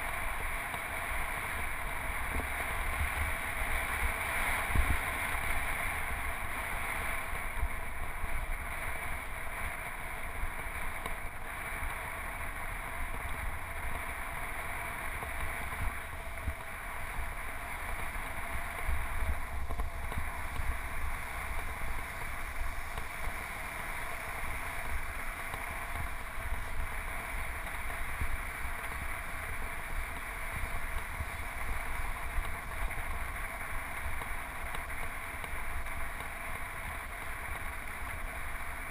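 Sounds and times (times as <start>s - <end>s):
bike tyres rumbling on asphalt: 0.0s - 38.9s.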